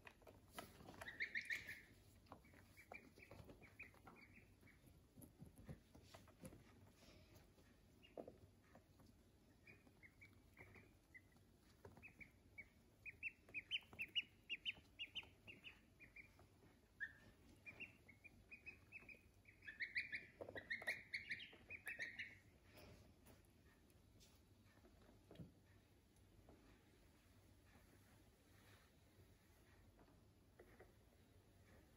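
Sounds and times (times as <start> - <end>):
ducklings peeping: 0.0 - 27.6.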